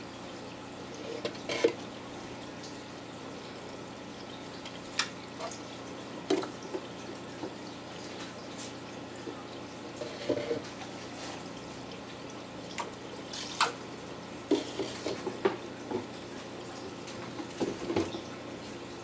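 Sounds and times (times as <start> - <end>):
water dripping and splashing: 0.0 - 19.0.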